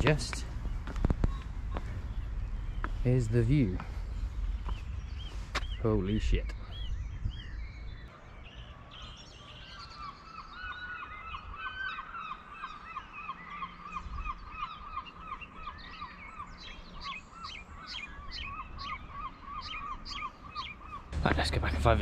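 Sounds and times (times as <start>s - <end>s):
birds calling harsh repeated notes: 0.0s - 22.0s
higher sharper bird calls: 0.8s - 21.2s.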